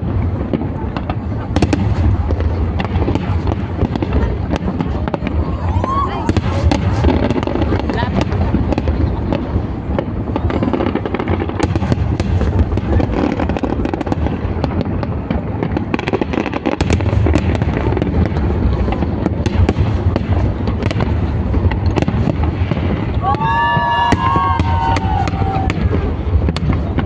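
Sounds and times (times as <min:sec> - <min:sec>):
fireworks bangs and crackling: 0:00.0 - 0:27.0
low rumble of booms: 0:00.0 - 0:27.0.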